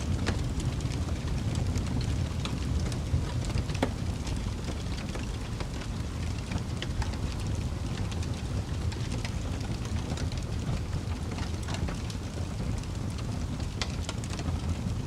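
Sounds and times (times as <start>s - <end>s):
campfire wood crackling and popping: 0.0s - 15.0s
low fire rumble: 0.0s - 15.0s.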